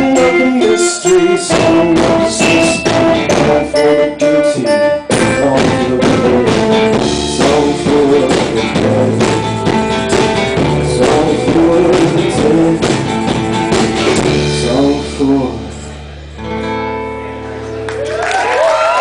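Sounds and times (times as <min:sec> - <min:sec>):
man singing: 0:00.0 - 0:15.9
acoustic guitar strumming: 0:00.0 - 0:17.9.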